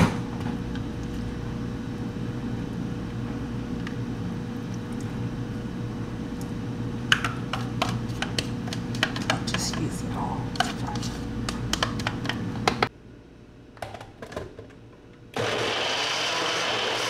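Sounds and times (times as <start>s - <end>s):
low background hum: 0.0s - 15.4s.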